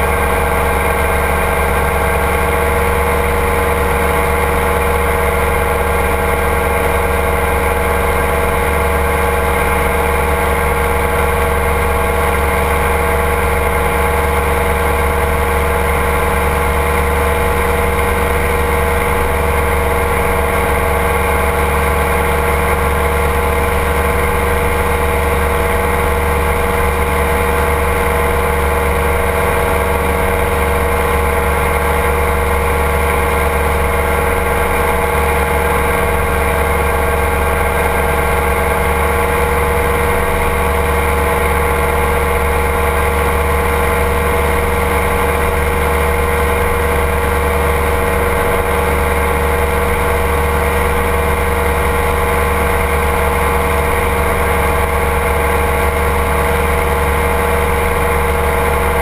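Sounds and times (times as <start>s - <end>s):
engine and propeller drone: 0.0s - 59.0s.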